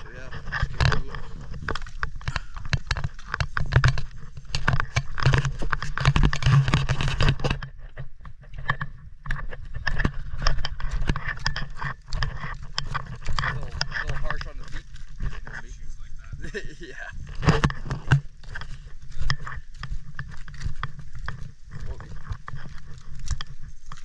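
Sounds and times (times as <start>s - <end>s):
footsteps on rocky shore: 0.0s - 24.0s.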